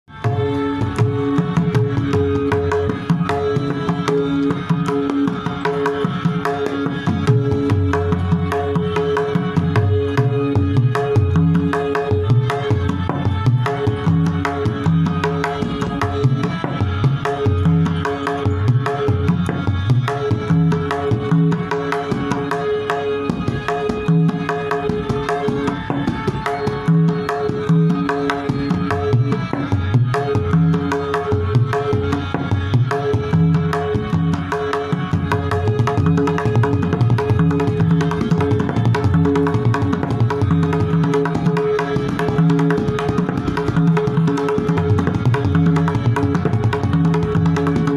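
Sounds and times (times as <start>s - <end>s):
tabla bass drum strokes: 0.0s - 47.9s
tabla treble drum strokes: 0.0s - 47.9s.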